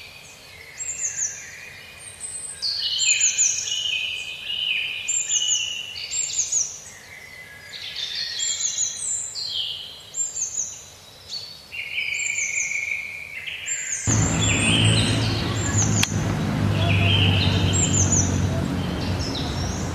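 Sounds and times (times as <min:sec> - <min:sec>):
songbirds singing and chirping: 0:00.0 - 0:19.9.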